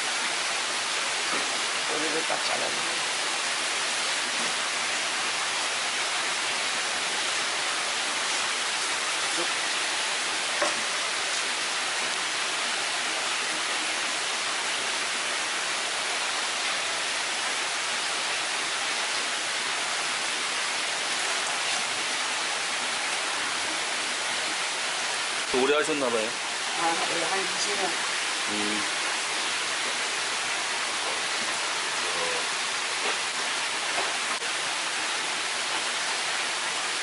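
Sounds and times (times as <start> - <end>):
water rushing: 0.0 - 37.0.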